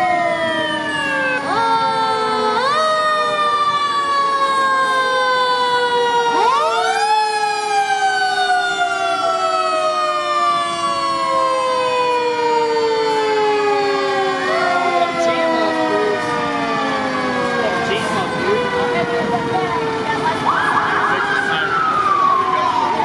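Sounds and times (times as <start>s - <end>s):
mechanical siren wailing: 0.0s - 23.0s.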